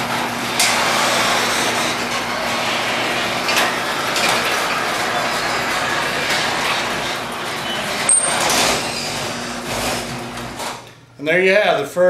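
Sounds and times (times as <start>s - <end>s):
garage door closing rattle: 0.0s - 11.0s.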